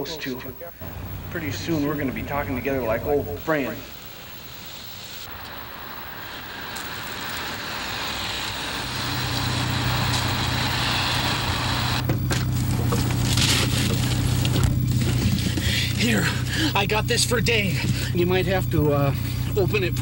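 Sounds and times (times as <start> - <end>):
steady low hum: 0.0 - 20.0
street traffic: 0.0 - 20.0
car engine running: 0.8 - 20.0.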